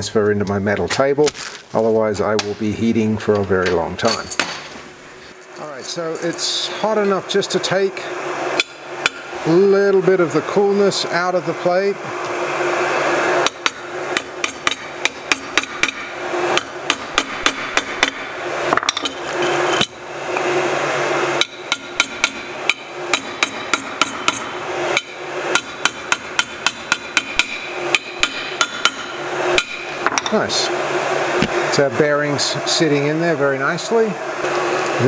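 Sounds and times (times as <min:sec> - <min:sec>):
hot air gun blowing: 0:05.0 - 0:35.0.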